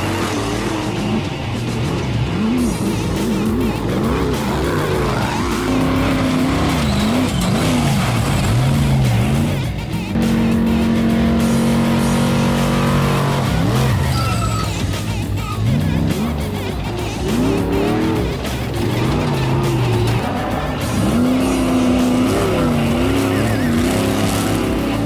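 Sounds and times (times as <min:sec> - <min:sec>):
music: 0:00.0 - 0:25.0
race vehicle engine revving: 0:00.0 - 0:25.0.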